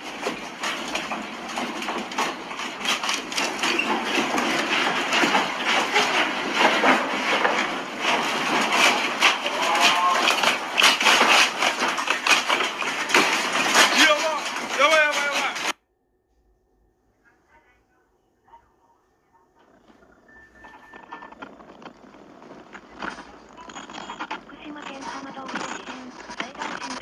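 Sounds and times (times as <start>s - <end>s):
objects rattling and knocking: 0.0s - 15.8s, 19.6s - 27.0s.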